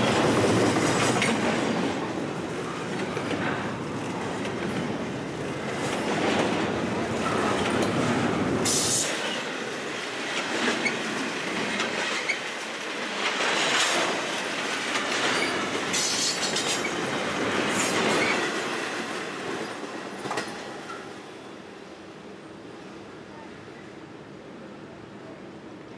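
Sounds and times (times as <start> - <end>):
freight train wheels on rails: 0.0 - 23.4.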